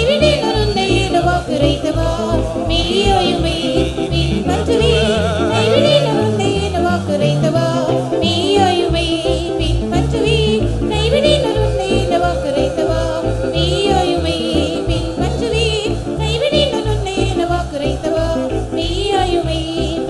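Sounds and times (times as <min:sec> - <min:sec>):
instrumental music: 0:00.0 - 0:20.0
pulsing bass: 0:00.0 - 0:20.0
worship song singing: 0:00.0 - 0:20.0.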